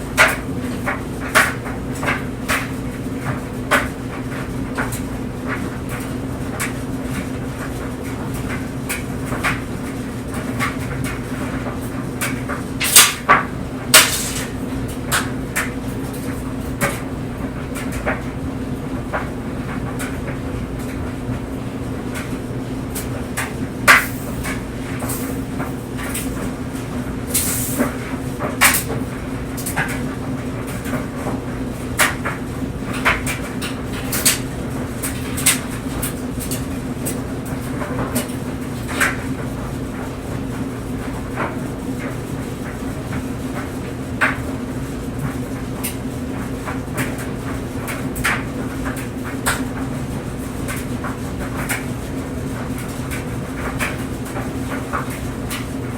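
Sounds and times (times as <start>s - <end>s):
clothes dryer motor hum: 0.0s - 55.9s.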